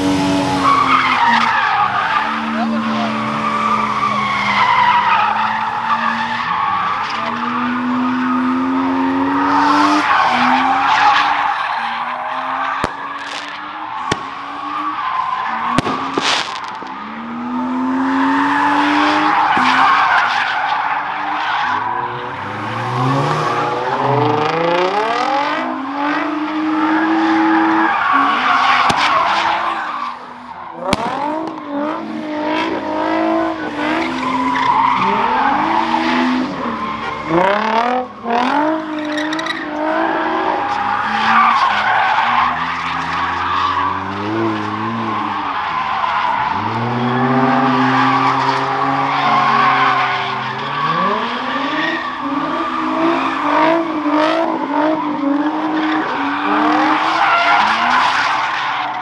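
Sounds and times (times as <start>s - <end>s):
car engine revving: 0.0s - 59.0s
tires screeching: 0.0s - 59.0s.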